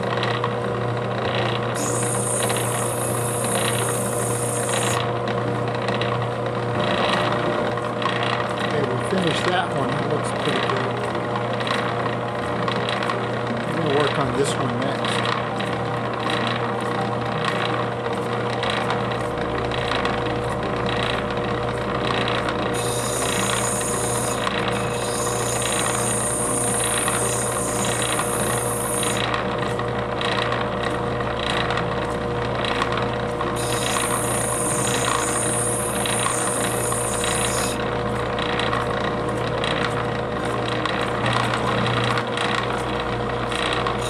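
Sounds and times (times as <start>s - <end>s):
machine motor hum: 0.0s - 44.0s.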